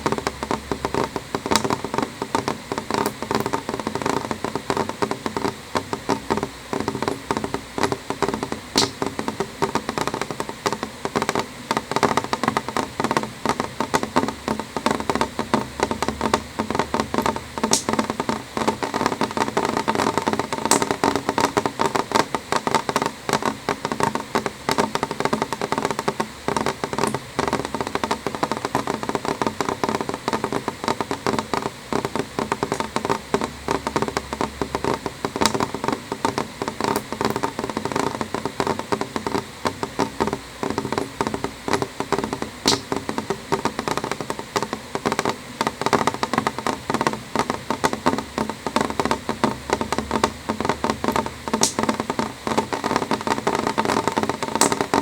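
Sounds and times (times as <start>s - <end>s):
rain tapping on window: 0.0s - 55.0s.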